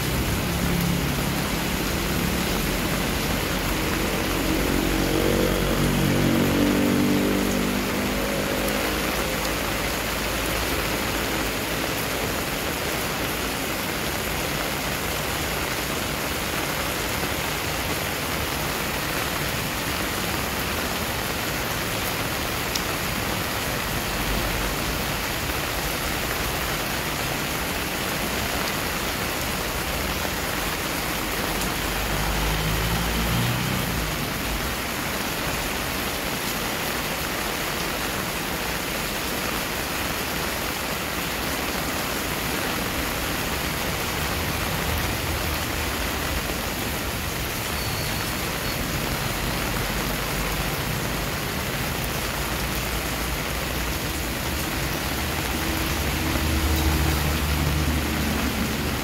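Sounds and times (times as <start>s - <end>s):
heavy rain on concrete: 0.0s - 59.0s.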